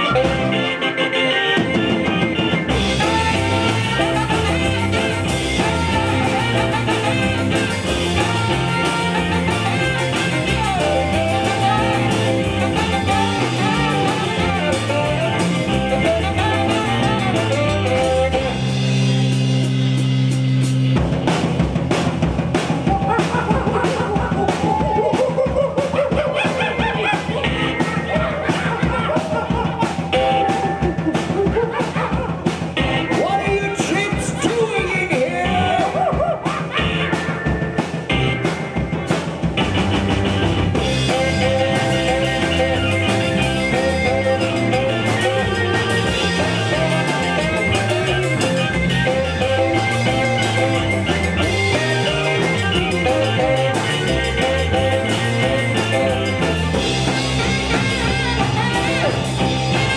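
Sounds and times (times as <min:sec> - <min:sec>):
live rock and roll band: 0:00.0 - 0:59.9.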